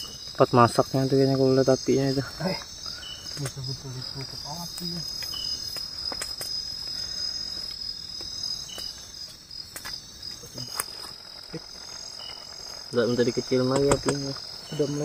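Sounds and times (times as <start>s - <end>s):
fire crackling and snapping: 0.0s - 15.0s
insects chorus: 0.0s - 15.0s.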